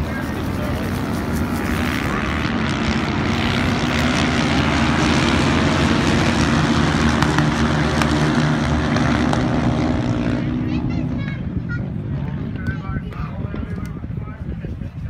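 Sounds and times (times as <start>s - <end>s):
quad bike engines droning: 0.0s - 15.0s.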